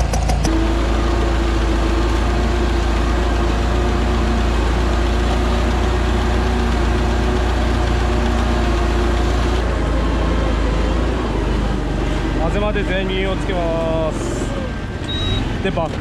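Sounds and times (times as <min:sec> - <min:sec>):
rice transplanter engine drone: 0:00.0 - 0:16.0
constant whine: 0:00.1 - 0:16.0.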